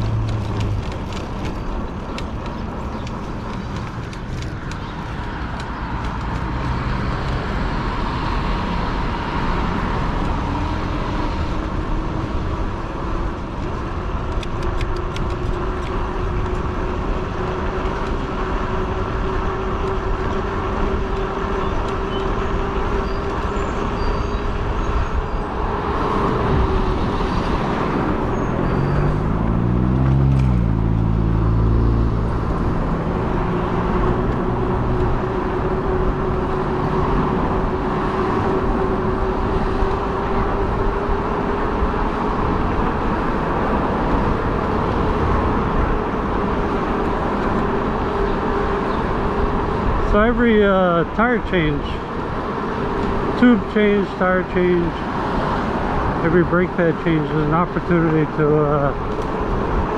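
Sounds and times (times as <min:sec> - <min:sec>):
wind on microphone: 0:00.0 - 0:50.2
passing vehicle engine: 0:00.0 - 0:59.9
tire noise on street: 0:00.0 - 0:59.9.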